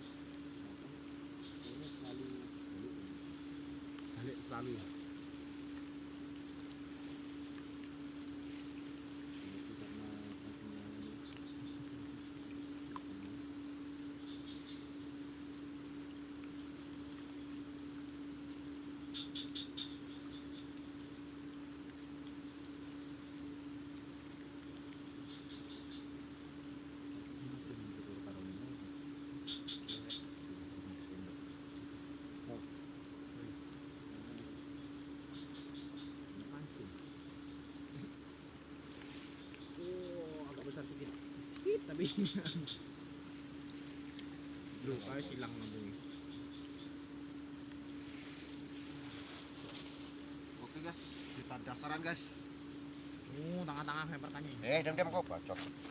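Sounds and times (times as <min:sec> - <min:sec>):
insect chirps: 0:00.0 - 0:55.9
pulsing cricket trill: 0:00.0 - 0:55.9
steady low hum: 0:00.0 - 0:55.9.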